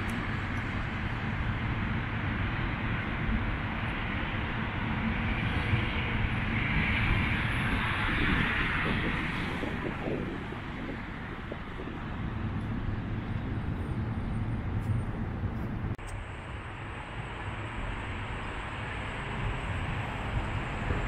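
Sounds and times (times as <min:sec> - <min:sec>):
low rumble of vehicles and machinery: 0:00.0 - 0:21.0.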